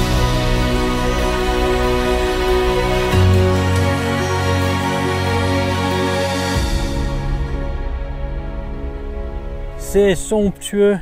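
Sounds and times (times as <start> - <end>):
deep bass: 0.0 - 9.9
music with sustained chords: 0.0 - 11.0.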